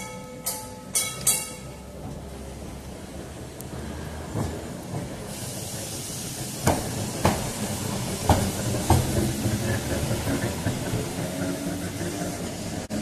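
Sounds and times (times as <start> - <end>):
tram wheels knocking on track: 0.0 - 3.4, 4.2 - 13.0
tram hiss and low hum: 0.0 - 13.0.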